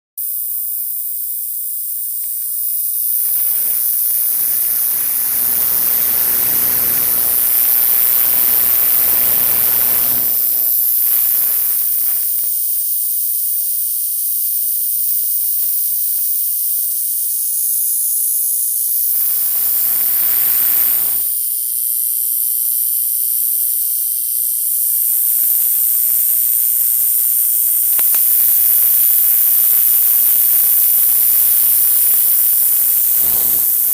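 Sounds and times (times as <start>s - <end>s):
high-pitched electrical whine: 0.2s - 33.9s
hiss: 0.2s - 33.9s.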